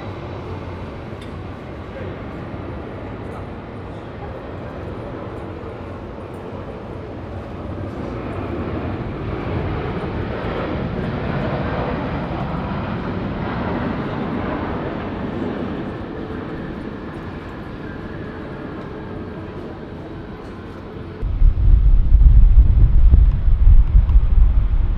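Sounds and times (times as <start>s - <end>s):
jet airliner engine rumble: 0.0s - 24.9s.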